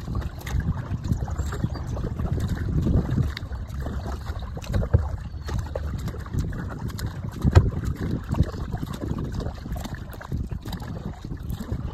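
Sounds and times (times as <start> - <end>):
water lapping against kayak hull: 0.0 - 11.9
wind on microphone: 0.0 - 11.9.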